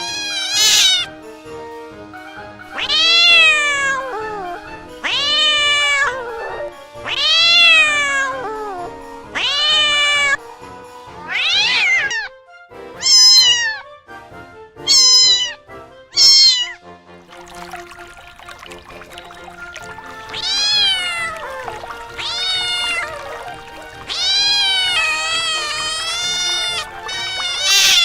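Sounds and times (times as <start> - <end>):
cat meowing: 0.0 - 1.1, 2.6 - 10.4, 11.2 - 12.3, 13.0 - 13.9, 14.8 - 16.8, 17.5 - 28.0
soft background music: 0.0 - 28.0.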